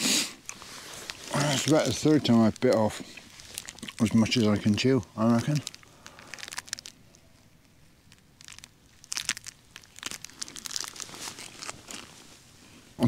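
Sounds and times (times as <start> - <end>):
biting and chewing: 0.4 - 12.2
wrapper crinkling: 0.5 - 12.5.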